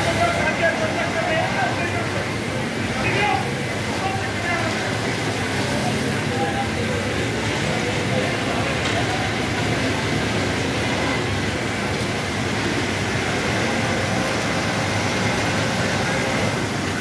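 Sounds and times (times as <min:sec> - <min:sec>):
industrial sewing machines running: 0:00.0 - 0:17.0.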